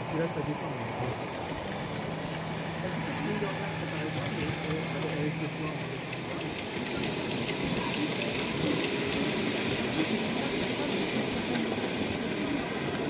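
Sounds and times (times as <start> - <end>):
model train rolling rumble: 0.0 - 13.0
wheels clicking: 1.2 - 13.0.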